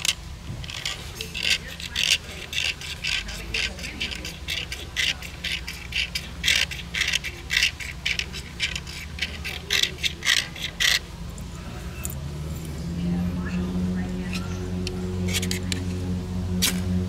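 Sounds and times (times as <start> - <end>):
ferro rod scraping: 0.0 - 12.7, 13.4 - 17.0
steady low hum: 0.0 - 17.0.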